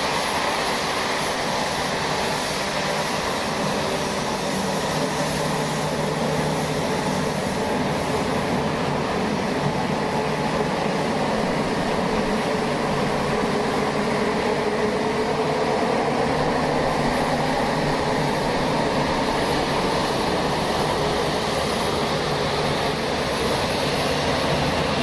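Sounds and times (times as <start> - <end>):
jet engines running at low power: 0.0 - 25.0.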